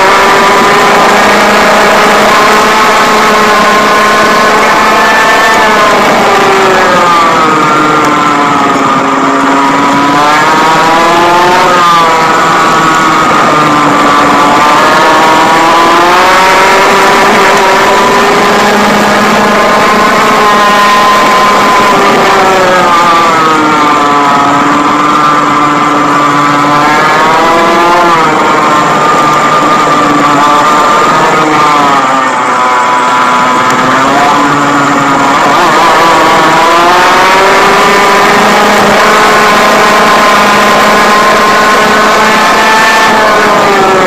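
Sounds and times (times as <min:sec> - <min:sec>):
kart engine revving: 0:00.0 - 0:44.0.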